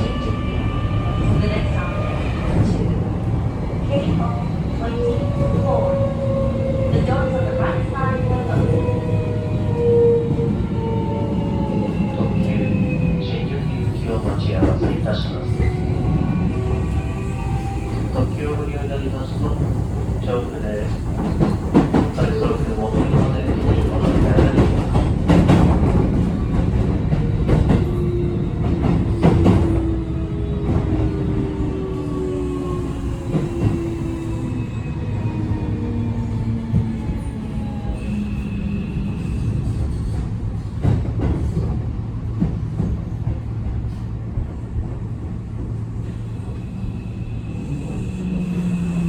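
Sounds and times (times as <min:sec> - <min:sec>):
train rumble: 0:00.0 - 0:49.0.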